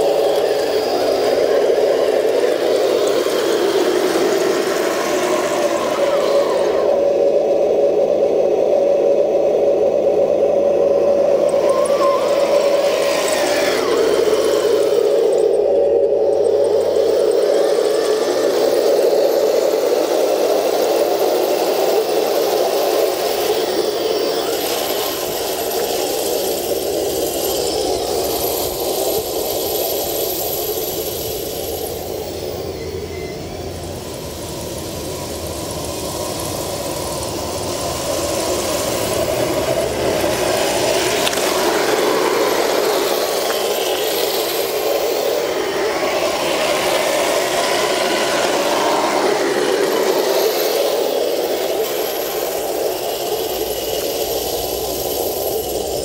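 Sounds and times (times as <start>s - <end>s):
model tank mechanical drive: 0.0s - 56.0s
rattle: 0.0s - 56.0s.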